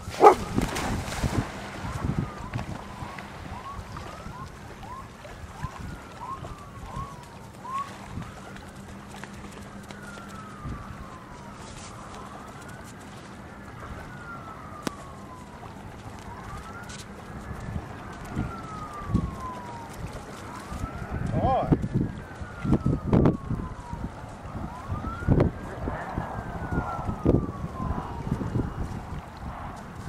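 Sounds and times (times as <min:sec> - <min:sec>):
quick upward siren chirps: 0:00.0 - 0:29.6
siren wailing: 0:00.0 - 0:30.0.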